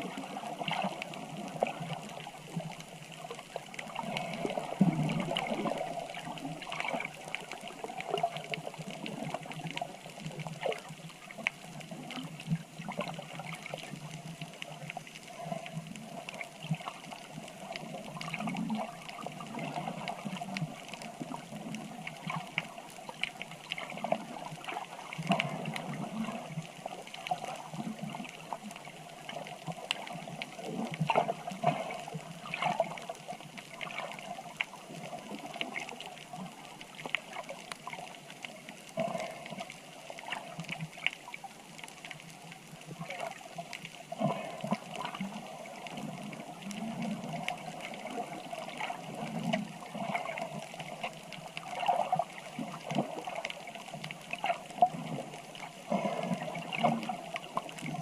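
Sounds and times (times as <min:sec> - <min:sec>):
water trickling and sloshing: 0:00.0 - 0:58.0
small clicks and pops: 0:00.1 - 0:58.0.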